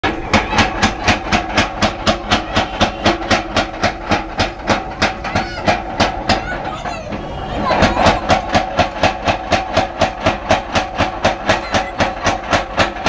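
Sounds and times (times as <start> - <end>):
power hammer striking: 0.0 - 6.6, 7.8 - 13.0.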